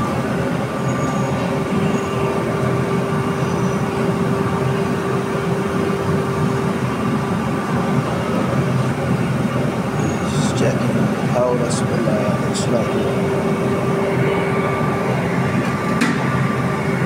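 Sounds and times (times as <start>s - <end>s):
faint constant hum: 0.0s - 17.0s
gas burners rumbling: 0.0s - 17.0s.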